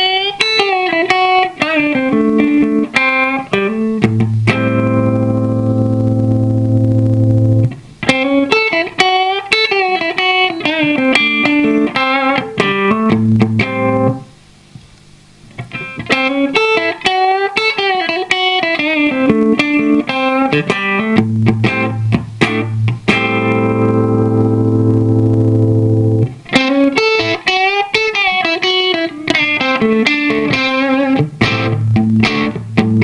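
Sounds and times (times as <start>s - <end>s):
solo electric guitar: 0.0s - 33.0s.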